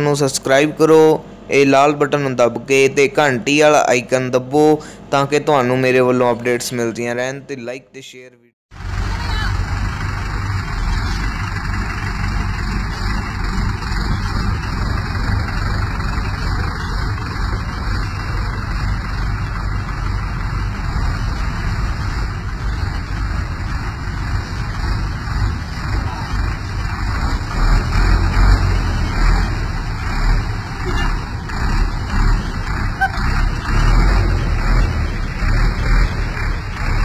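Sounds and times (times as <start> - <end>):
tractor diesel engines passing: 0.0 - 7.3, 8.7 - 37.0.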